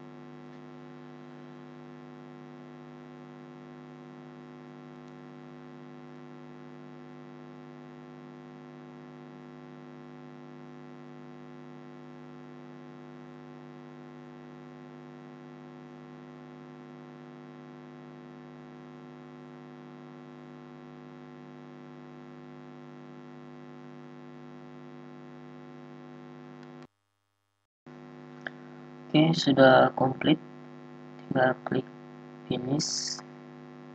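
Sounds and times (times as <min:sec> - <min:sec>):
electrical mains hum: 0:00.0 - 0:26.9, 0:27.9 - 0:33.9.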